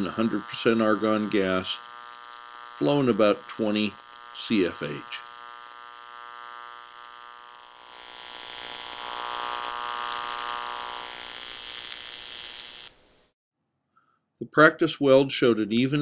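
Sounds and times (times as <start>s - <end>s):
welding arc buzzing and hissing: 0.0s - 13.4s.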